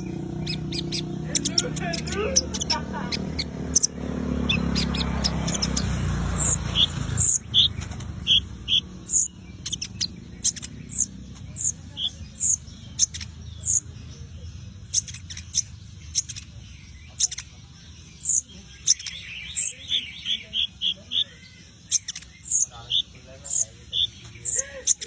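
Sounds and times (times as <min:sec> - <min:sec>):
sunbird chirping: 0:00.0 - 0:25.0.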